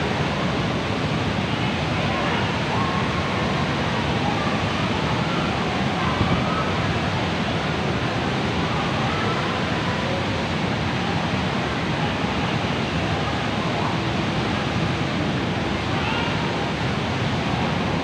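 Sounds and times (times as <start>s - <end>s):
faint voices: 0.0s - 18.0s
indoor waterfall rushing: 0.0s - 18.0s.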